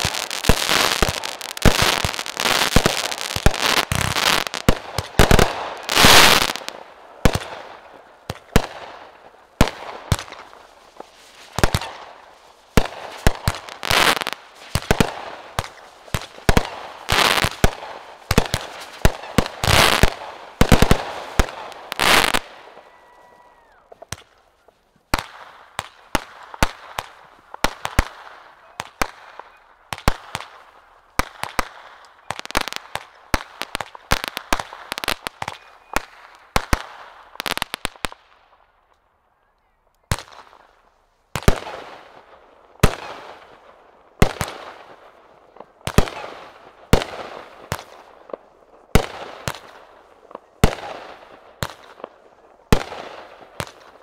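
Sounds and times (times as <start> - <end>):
firework shots and crackling: 0.0 - 22.8, 25.1 - 38.6, 40.1 - 54.0.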